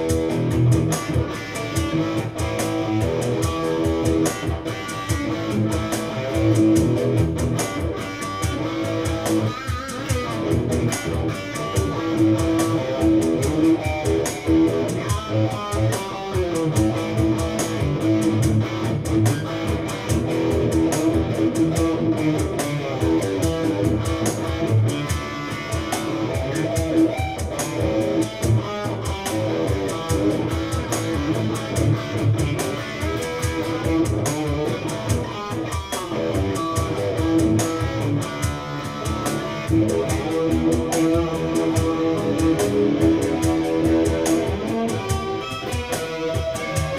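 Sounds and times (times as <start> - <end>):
electric guitar through amplifier: 0.0 - 46.9.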